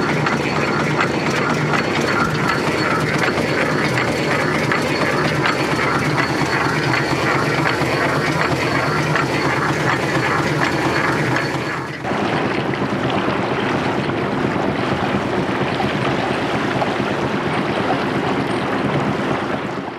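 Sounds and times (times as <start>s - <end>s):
steam engine running: 0.0s - 19.9s
water rushing along hull: 0.0s - 19.9s.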